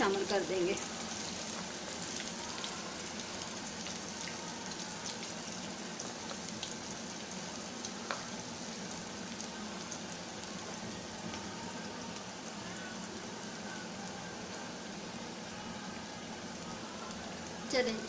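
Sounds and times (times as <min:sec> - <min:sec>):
food deep-frying in oil: 0:00.0 - 0:18.0.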